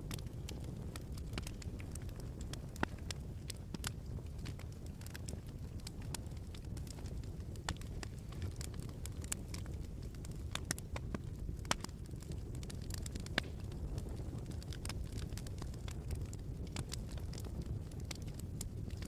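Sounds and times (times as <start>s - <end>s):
fire pops and snaps: 0.0s - 19.0s
rumble of flames: 0.0s - 19.0s
wood fire crackling: 0.0s - 19.0s.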